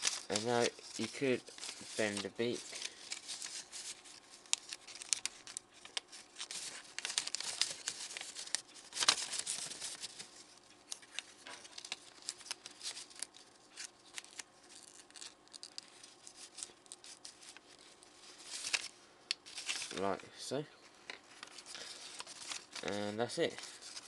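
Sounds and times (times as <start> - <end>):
paper rustling and crinkling: 0.0 - 20.2, 20.9 - 24.0.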